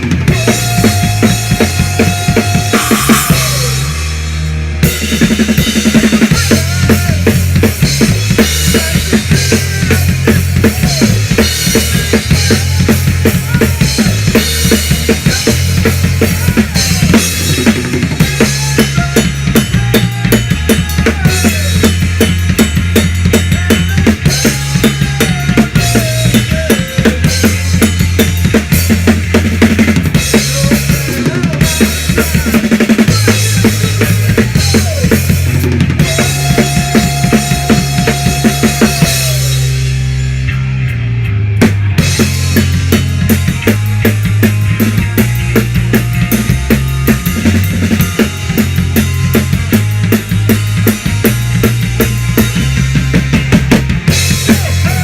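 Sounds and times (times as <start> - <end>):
low bass notes: 0.0 - 55.0
rock band playing: 0.0 - 55.0.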